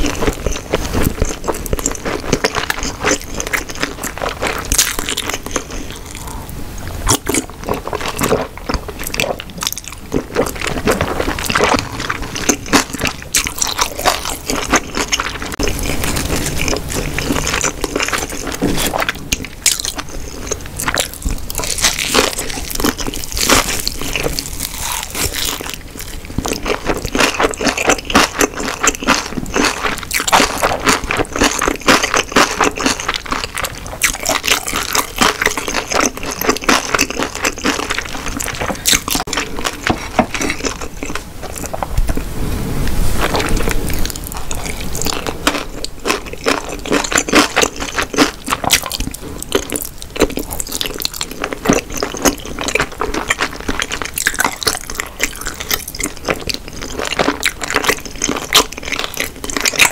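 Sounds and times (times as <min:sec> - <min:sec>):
crunchy bites: 0:00.0 - 0:06.4, 0:07.0 - 0:42.0, 0:43.2 - 0:59.9
wet chewing clicks: 0:00.0 - 0:06.4, 0:07.1 - 0:42.2, 0:43.2 - 0:59.9.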